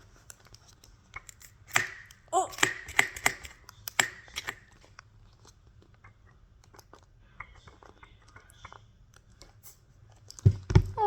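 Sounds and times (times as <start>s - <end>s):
fidget toy clicks and crinkles: 0.0s - 11.0s.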